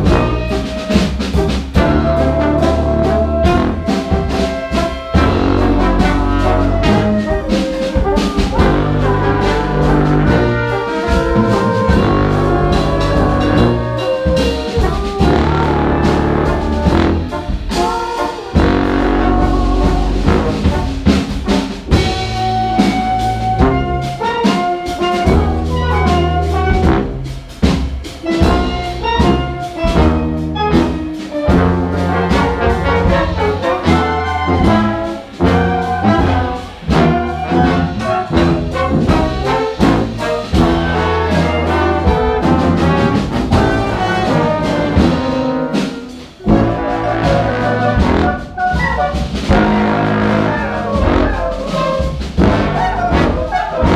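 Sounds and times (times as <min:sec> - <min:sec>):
brass ensemble playing: 0:00.0 - 0:53.9
drum kit: 0:00.0 - 0:53.9
low tuba bass notes: 0:00.0 - 0:53.9.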